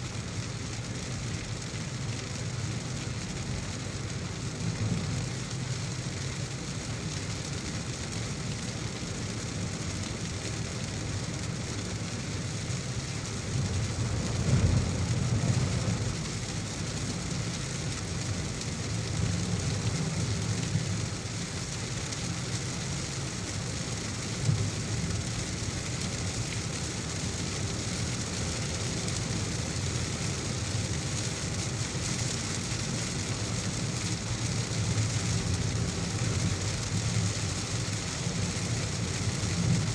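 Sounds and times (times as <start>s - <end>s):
car driving on wet road: 0.0s - 39.9s
heavy rain: 0.0s - 39.9s.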